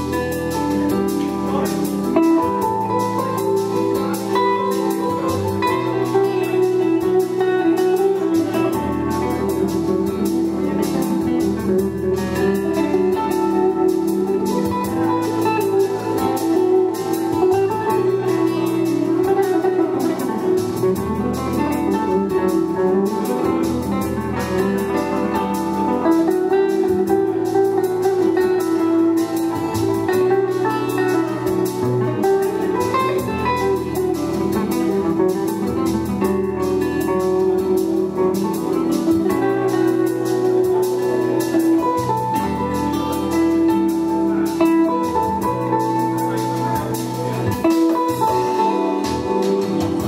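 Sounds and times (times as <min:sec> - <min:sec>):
electric guitar picking notes: 0:00.0 - 0:50.0
low bass notes: 0:00.0 - 0:50.0.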